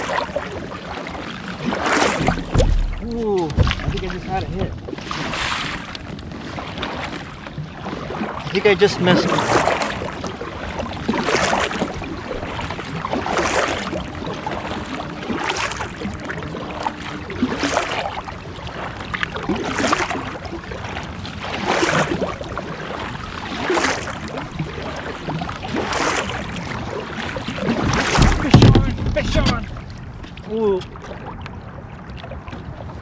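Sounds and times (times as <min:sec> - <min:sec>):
kayak paddle strokes in water: 0:00.0 - 0:33.0.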